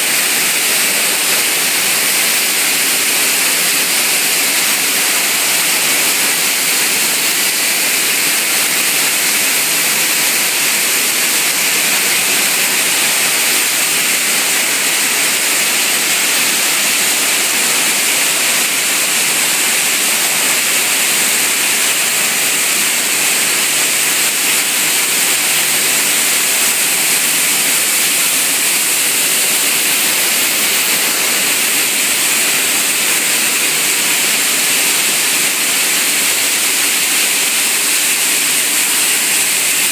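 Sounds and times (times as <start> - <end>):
machinery noise: 0.0 - 39.9
rush of water: 0.0 - 39.9.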